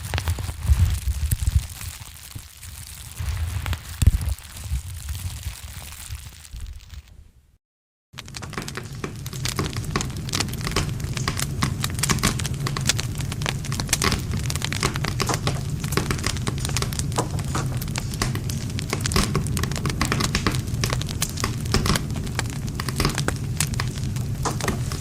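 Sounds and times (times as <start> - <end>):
campfire crackling and popping: 0.0 - 7.2, 8.2 - 25.0.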